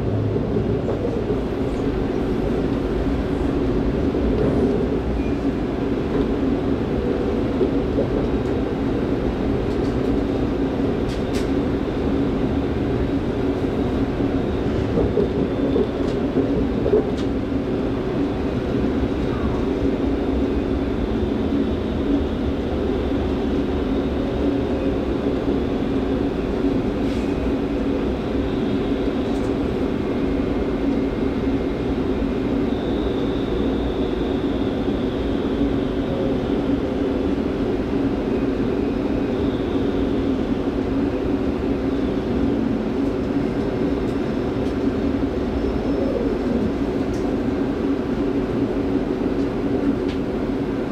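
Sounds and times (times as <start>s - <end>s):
train car hum and drone: 0.0s - 50.9s.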